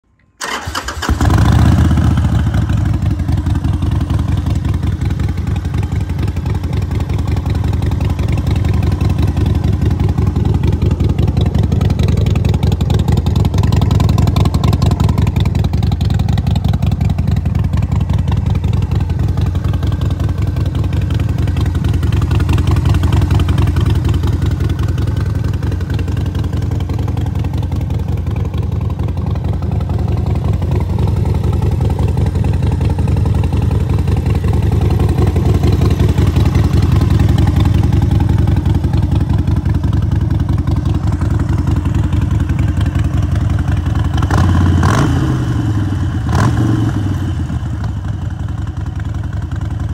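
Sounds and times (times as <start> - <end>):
motorcycle engine idling: 0.4 - 49.9.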